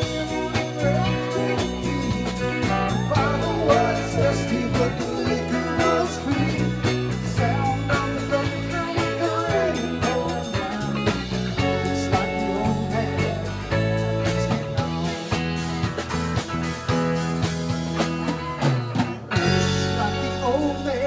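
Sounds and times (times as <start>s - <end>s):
man singing: 0.0s - 15.6s, 19.4s - 21.0s
drum kit: 0.0s - 21.0s
electric bass: 0.0s - 21.0s
electric guitars: 0.0s - 21.0s
keyboards: 0.0s - 21.0s.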